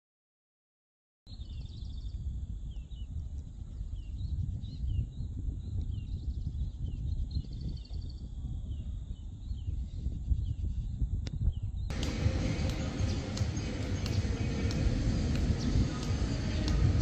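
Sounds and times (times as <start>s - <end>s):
wind buffeting microphone: 1.3s - 17.0s.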